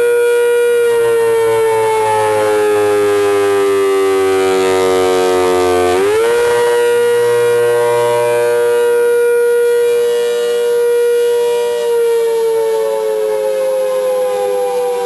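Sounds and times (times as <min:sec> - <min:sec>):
outdoor warning siren: 0:00.0 - 0:15.0.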